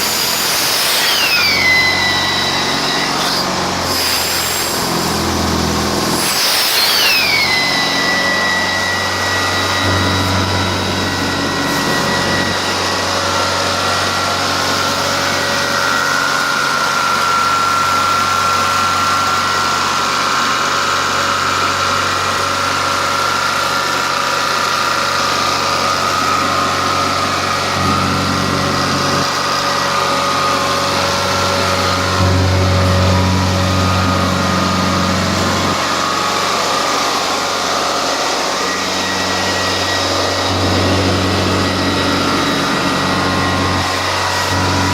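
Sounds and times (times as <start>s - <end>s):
machine whistle: 0.0s - 20.6s, 24.7s - 44.9s
carpet cleaning machine drone: 0.0s - 44.9s.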